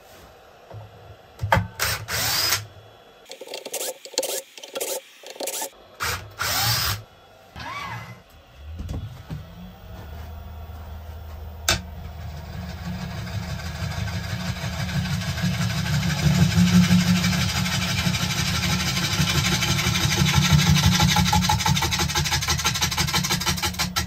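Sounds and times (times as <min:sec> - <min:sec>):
wood lathe motor hum: 0:00.3 - 0:24.0.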